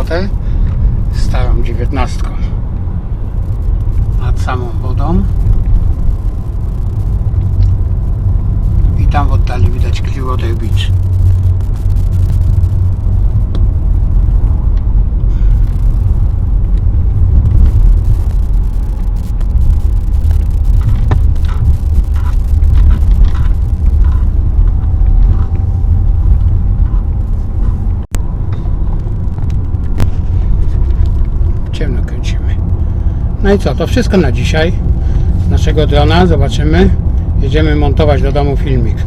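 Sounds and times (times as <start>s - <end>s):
car driving on road: 0.0s - 39.0s.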